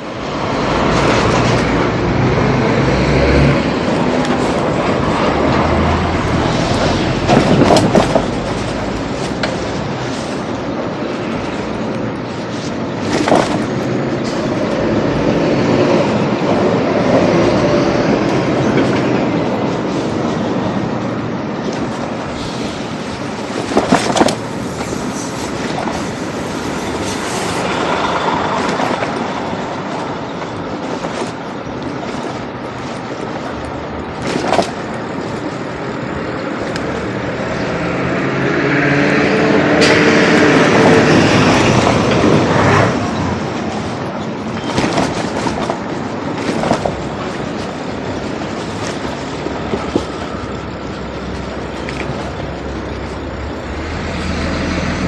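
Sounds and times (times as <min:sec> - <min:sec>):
train clattering: 0:00.0 - 0:55.0
train rumbling on tracks: 0:00.0 - 0:55.0.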